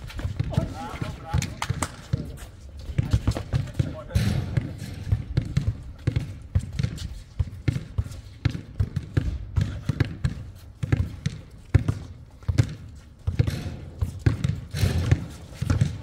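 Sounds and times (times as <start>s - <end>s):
basketball bouncing: 0.0s - 16.0s.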